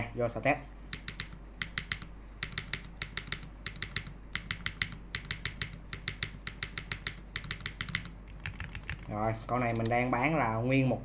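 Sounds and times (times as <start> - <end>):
mechanical keyboard typing: 0.9 - 10.0.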